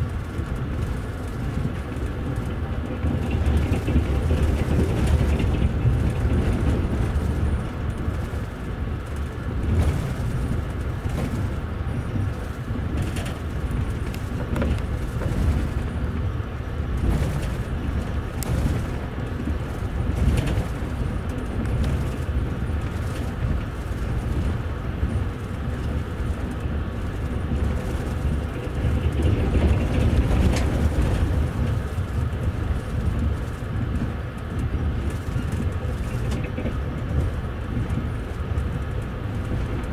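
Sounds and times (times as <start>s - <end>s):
train wheels rumbling: 0.0s - 39.9s
wheels clicking over track: 0.0s - 39.9s.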